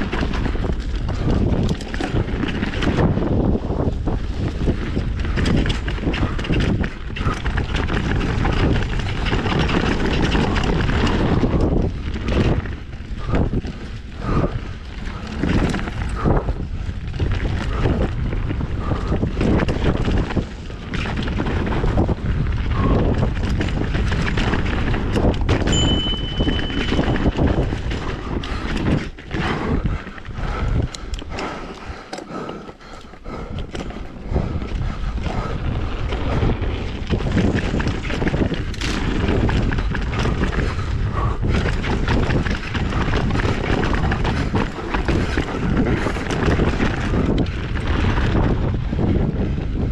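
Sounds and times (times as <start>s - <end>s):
bike rattling over rocks: 0.0s - 49.9s
wind rushing over microphone: 0.0s - 49.9s.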